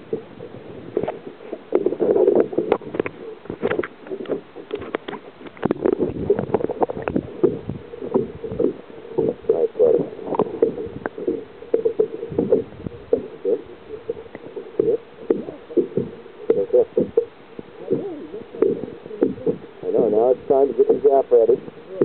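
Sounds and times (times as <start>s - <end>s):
water sloshing and gurgling: 0.0s - 19.8s.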